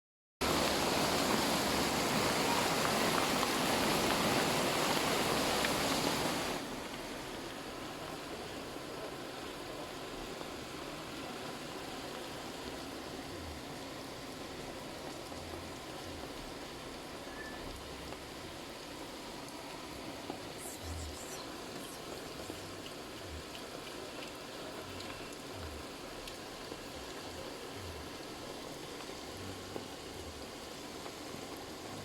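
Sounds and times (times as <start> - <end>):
heavy rain pouring: 0.4 - 32.0.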